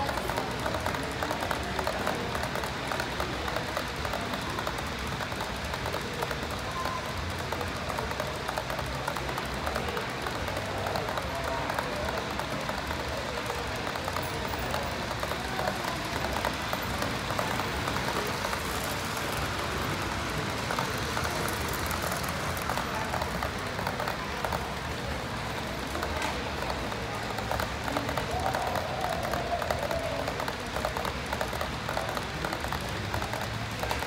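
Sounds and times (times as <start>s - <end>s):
hubbub of people: 0.0s - 34.0s
model train wheels clicking: 0.0s - 34.0s.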